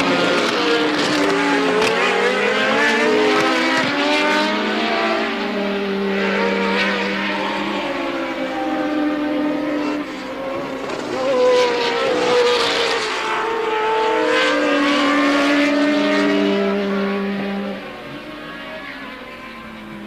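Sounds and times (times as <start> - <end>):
racing car engines passing: 0.0 - 20.0.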